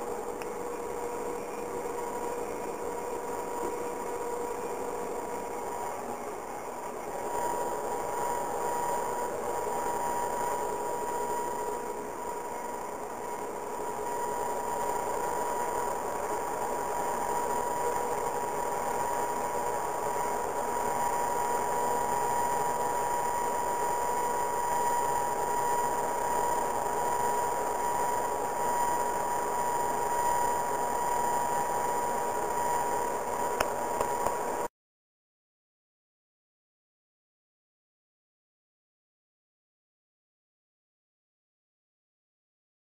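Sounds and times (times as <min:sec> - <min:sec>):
steady high whine: 0:00.0 - 0:34.7.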